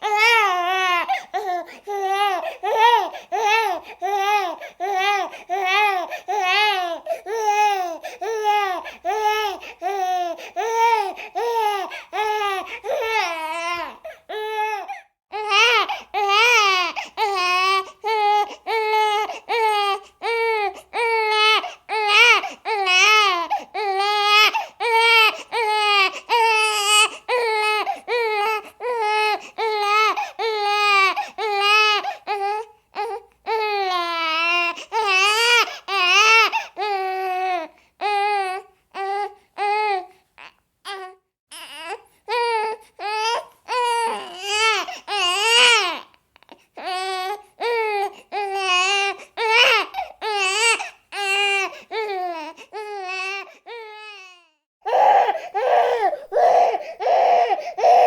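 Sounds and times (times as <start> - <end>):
infant crying: 0.0 - 58.0.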